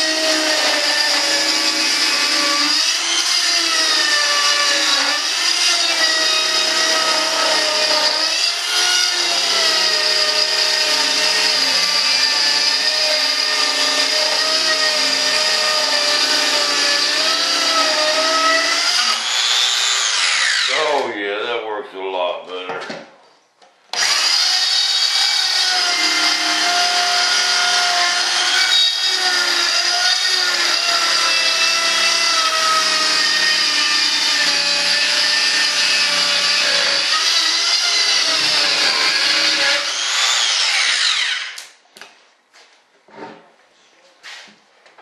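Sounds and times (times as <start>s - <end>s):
power tool whine: 0.0s - 20.7s, 23.9s - 41.6s.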